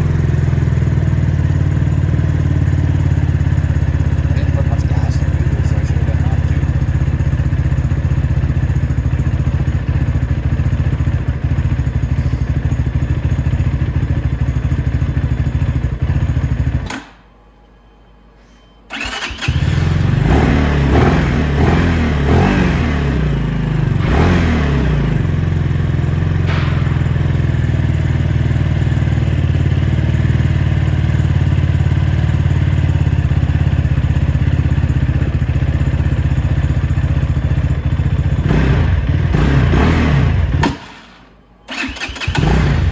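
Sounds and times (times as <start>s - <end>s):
motorcycle engine idling and revving: 0.0s - 16.9s, 18.9s - 42.9s.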